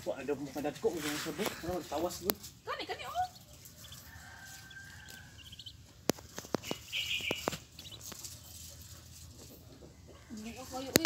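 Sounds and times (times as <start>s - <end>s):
rustling in straw: 0.4s - 9.6s
ducklings peeping: 1.5s - 11.0s.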